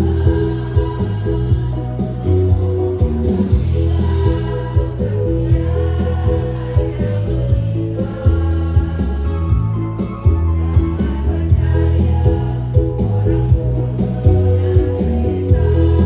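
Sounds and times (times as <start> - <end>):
backing music with bass and beat: 0.0 - 16.0
choir singing: 0.0 - 16.0.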